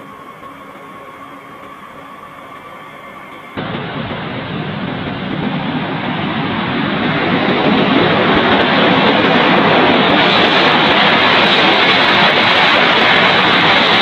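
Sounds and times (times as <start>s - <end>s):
jet engines roaring on takeoff: 0.0s - 14.0s.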